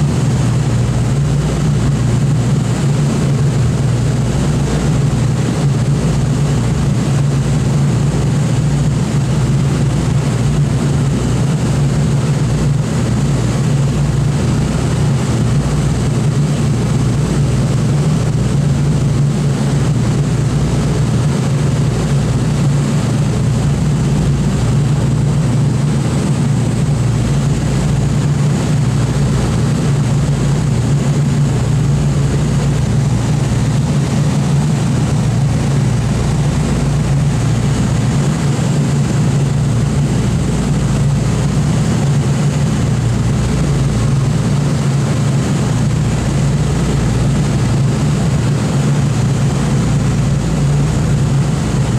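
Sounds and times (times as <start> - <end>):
propeller aircraft engines droning: 0.0 - 51.9.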